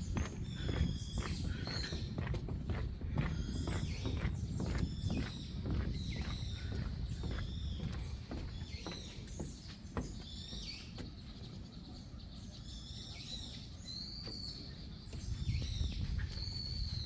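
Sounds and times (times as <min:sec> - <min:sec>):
footsteps on wooden boardwalk: 0:00.0 - 0:11.8, 0:14.0 - 0:17.0
wild birds calling: 0:00.0 - 0:17.0.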